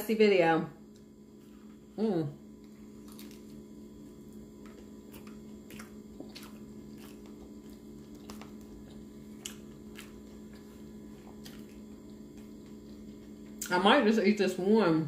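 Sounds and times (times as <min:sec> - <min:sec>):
person chewing food: 0:00.9 - 0:13.7.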